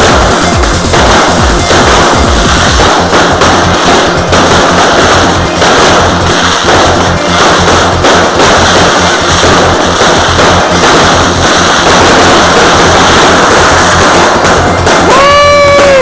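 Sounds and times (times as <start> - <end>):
fireworks crackling and banging: 0.0 - 16.0
music: 0.0 - 16.0.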